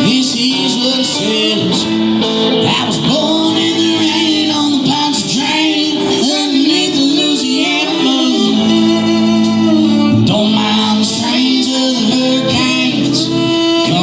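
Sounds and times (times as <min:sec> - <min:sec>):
acoustic guitar: 0:00.0 - 0:14.0
person singing: 0:00.0 - 0:14.0.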